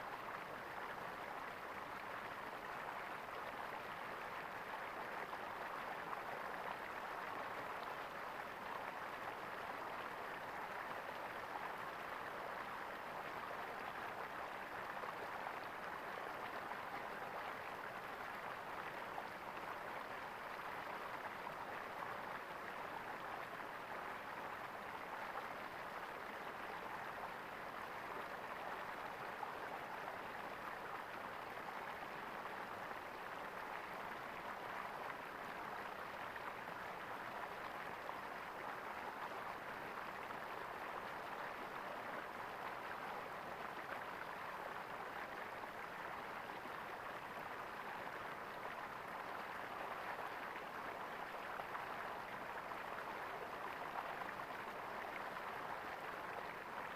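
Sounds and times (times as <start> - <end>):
stream gurgling over stones: 0.0 - 56.9.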